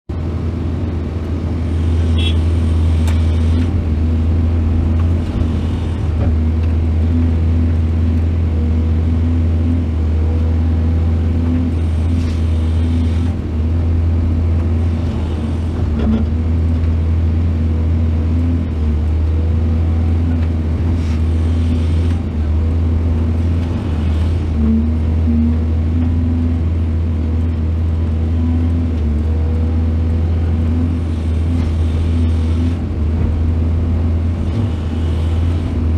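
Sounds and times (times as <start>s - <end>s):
heavy diesel machinery running: 0.1s - 35.9s.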